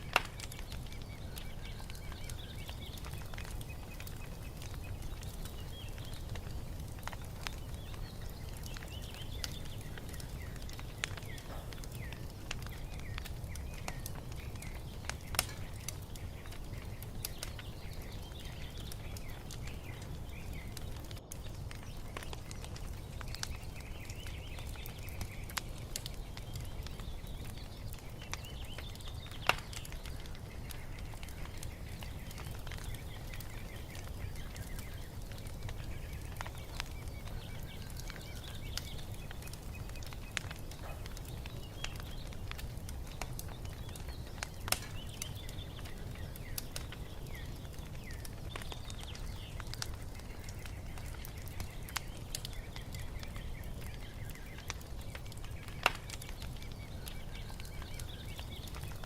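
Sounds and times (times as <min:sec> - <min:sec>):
birds chirping faintly: 0:00.0 - 0:59.0
wood fire crackling and popping: 0:00.0 - 0:59.0.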